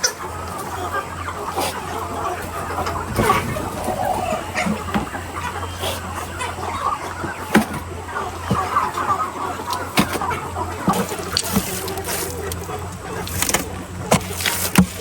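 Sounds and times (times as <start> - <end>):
chickens clucking: 0.0 - 14.6.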